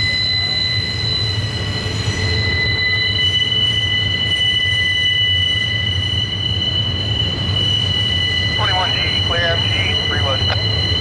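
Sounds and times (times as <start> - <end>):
low rumble of rail cars: 0.0 - 11.0
train wheels squealing on rails: 0.0 - 11.0.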